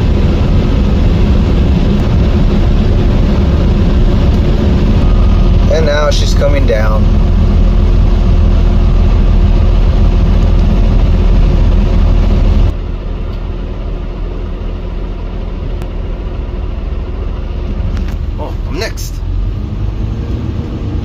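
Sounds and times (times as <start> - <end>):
diesel engines running: 0.0 - 21.0.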